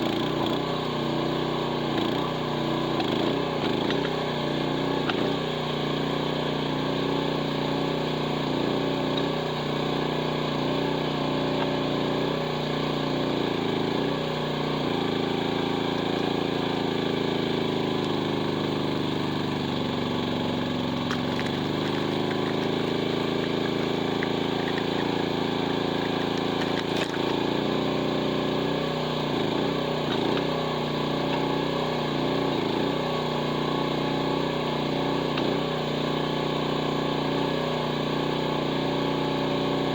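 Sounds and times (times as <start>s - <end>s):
excavator engine running hard: 0.0s - 39.9s.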